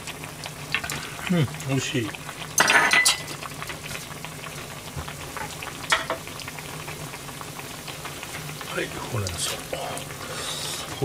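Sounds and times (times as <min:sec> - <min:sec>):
soup simmering: 0:00.0 - 0:11.0.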